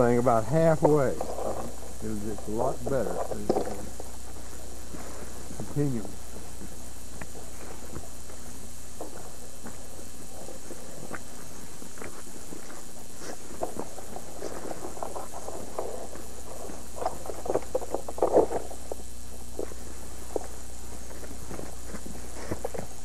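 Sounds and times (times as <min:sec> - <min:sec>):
background hiss: 0:00.0 - 0:23.0
footsteps through tall grass: 0:00.0 - 0:23.0
low hum: 0:00.0 - 0:23.0.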